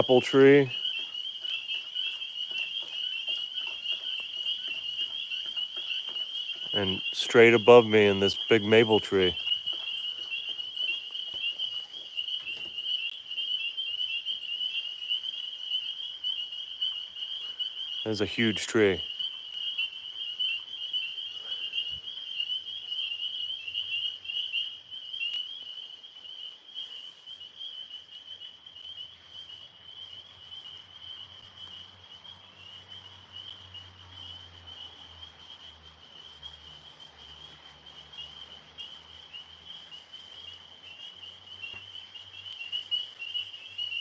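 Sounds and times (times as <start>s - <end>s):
tree frogs trilling chorus: 0.0s - 44.0s.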